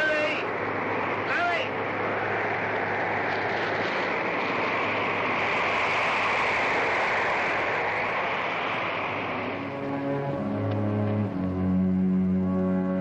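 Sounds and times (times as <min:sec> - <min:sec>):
storm wind rushing: 0:00.0 - 0:12.7.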